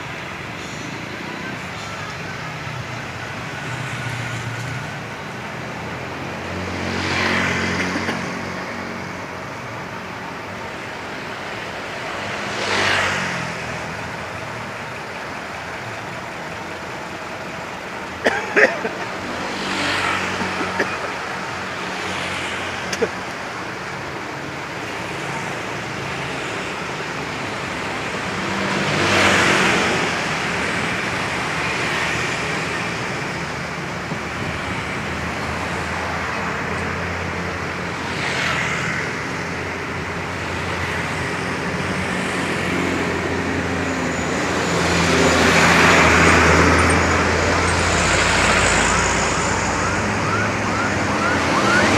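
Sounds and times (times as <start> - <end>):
engines running: 0.0 - 51.9
vehicles passing by: 0.0 - 51.9.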